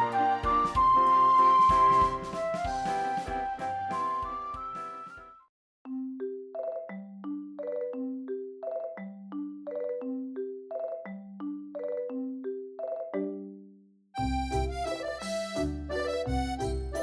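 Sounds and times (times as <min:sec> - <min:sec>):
bouncy mallet percussion tune: 0:00.0 - 0:05.2, 0:05.9 - 0:17.0.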